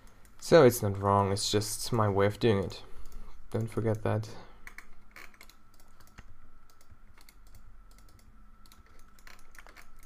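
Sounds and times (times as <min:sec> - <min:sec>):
faint steady whine: 0:00.0 - 0:10.0.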